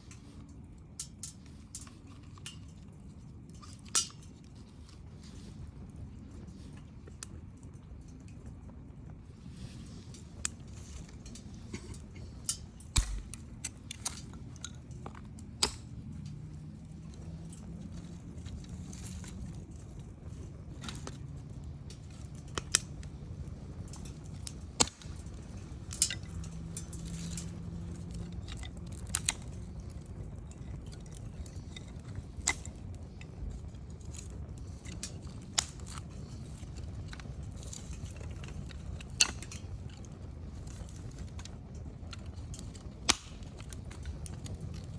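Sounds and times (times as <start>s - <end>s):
campfire crackling and popping: 0.0s - 44.9s
low rumble of flame: 0.0s - 44.9s.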